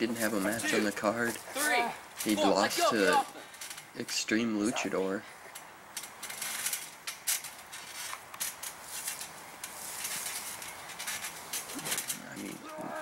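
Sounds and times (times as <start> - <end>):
trampoline springs creaking: 0.0 - 13.0.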